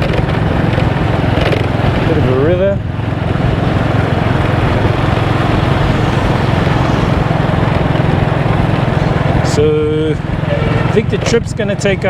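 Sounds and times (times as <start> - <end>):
motorbike engine drone: 0.0 - 12.0
wind rushing over microphone: 0.0 - 12.0.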